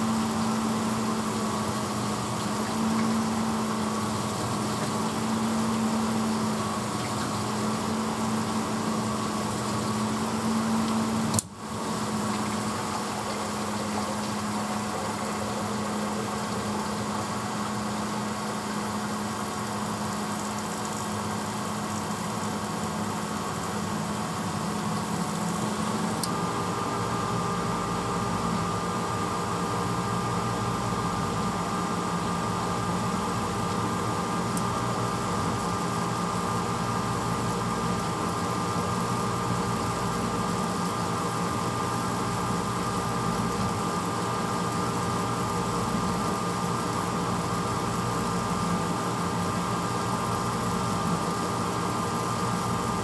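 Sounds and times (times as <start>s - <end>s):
dishwasher motor hum: 0.0s - 53.0s.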